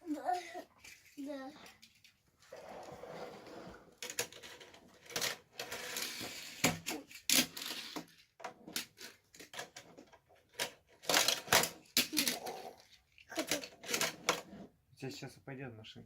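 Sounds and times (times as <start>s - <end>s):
plastic toy cars clattering: 0.0s - 3.0s, 3.9s - 14.7s.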